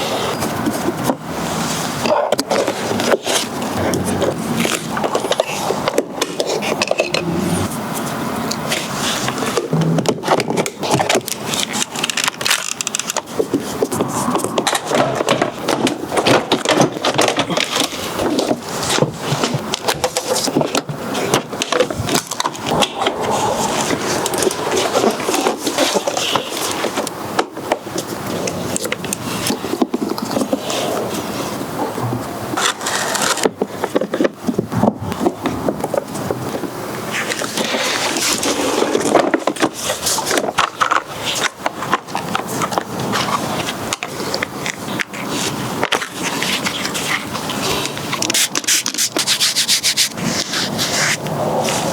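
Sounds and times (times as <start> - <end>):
scraping and rubbing on plastic: 0.0 - 31.6, 32.2 - 51.9.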